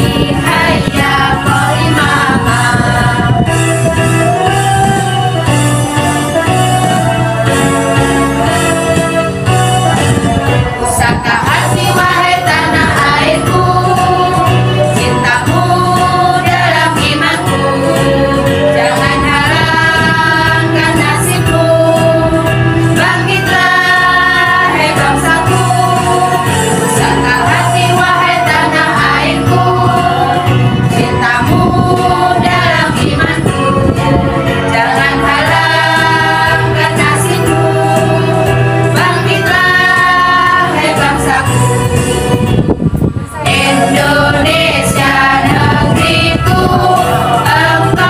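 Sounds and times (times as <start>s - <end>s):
women's choir singing: 0.0s - 4.0s, 10.8s - 42.5s, 43.4s - 48.0s.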